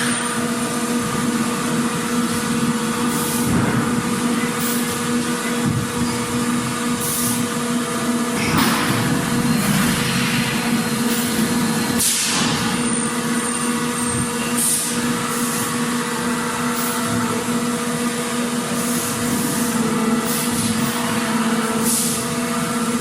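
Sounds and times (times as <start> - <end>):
machinery droning hum: 0.0 - 23.0.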